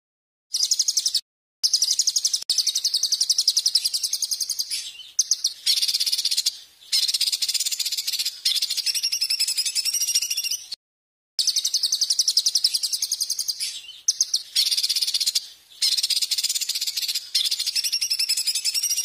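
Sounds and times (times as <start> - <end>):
songbird harsh trill: 0.6 - 10.8, 11.4 - 19.0.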